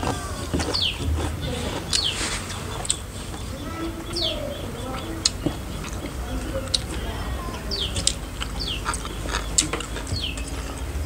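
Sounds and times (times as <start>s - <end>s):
chewing and lip-smacking: 0.0s - 3.4s, 4.8s - 11.0s
bird chirping: 0.0s - 11.0s.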